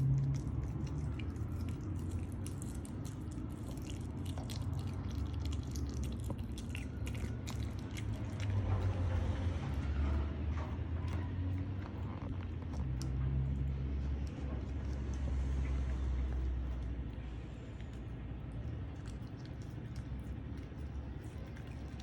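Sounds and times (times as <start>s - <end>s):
dog chewing and crunching: 0.0s - 22.0s
low steady hum: 0.0s - 22.0s.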